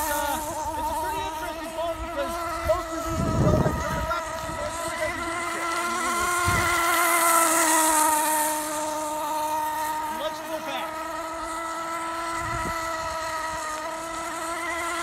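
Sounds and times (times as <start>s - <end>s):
model boat engine whine: 0.0s - 15.0s.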